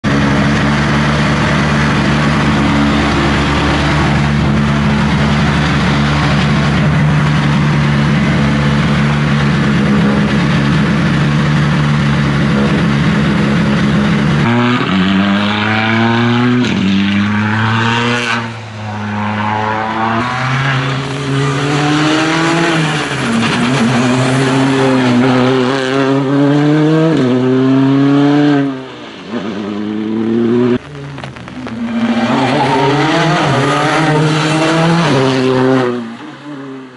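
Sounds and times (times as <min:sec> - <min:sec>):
car engine revving through upshifts: 0:00.1 - 0:30.8, 0:31.6 - 0:36.9.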